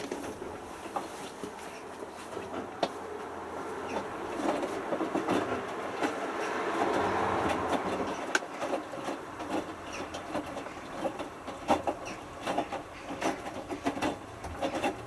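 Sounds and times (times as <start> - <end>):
washing machine drum tumbling: 2.3 - 15.0.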